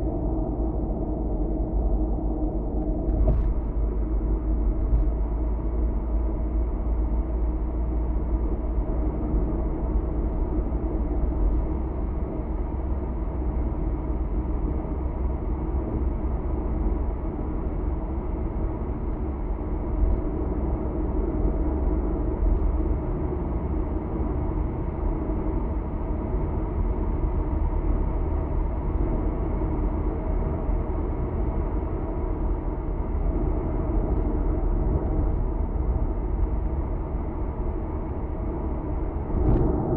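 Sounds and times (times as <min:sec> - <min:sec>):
car interior road drone: 0:00.0 - 0:39.9.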